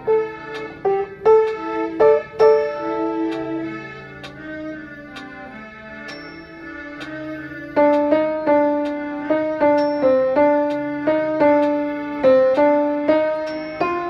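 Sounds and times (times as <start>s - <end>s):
piano slow melody: 0.0s - 14.0s.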